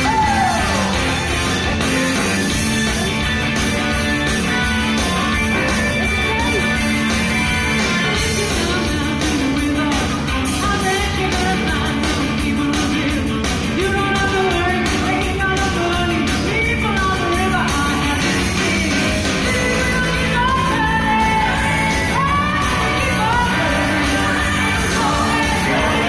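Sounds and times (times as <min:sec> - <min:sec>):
electric guitar: 0:00.0 - 0:26.0
steady drumbeat: 0:00.0 - 0:26.0
voices singing rock song: 0:00.0 - 0:26.0.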